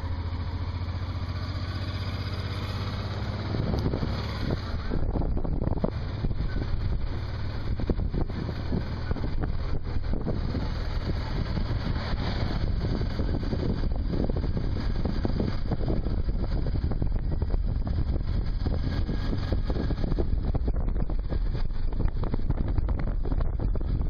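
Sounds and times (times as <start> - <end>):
motorcycle engine and road rumble: 0.0 - 24.0
wind rushing over microphone: 0.0 - 24.0.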